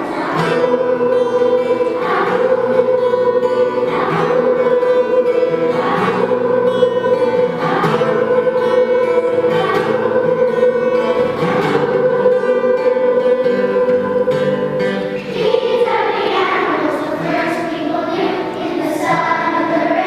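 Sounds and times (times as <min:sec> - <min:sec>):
children singing together: 0:00.0 - 0:20.0
guitar accompaniment: 0:00.0 - 0:20.0.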